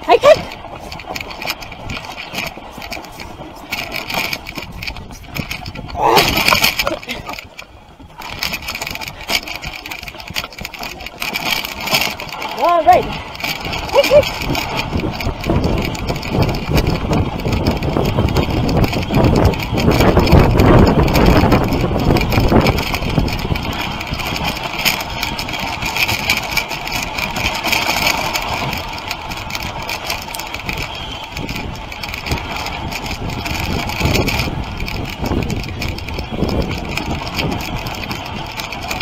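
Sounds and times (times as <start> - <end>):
sled frame knocking and rattling: 0.0 - 39.0
sled runners scraping on snow: 0.0 - 39.0
wind on microphone: 0.0 - 39.0.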